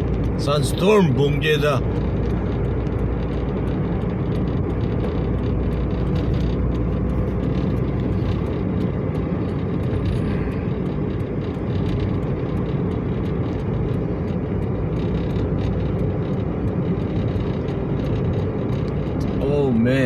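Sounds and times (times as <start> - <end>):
car driving rumble: 0.0 - 20.0
faint rapid ticks: 1.8 - 19.5.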